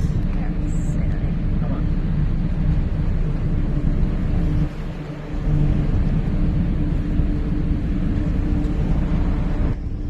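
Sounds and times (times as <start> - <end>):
ferry engines humming: 0.0 - 10.0
uneven low rumble: 0.0 - 10.0.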